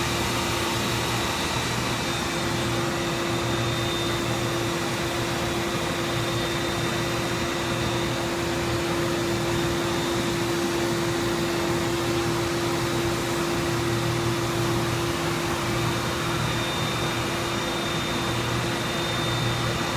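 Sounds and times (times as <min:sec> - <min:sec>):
cnc machine whirring hum: 0:00.0 - 0:19.9.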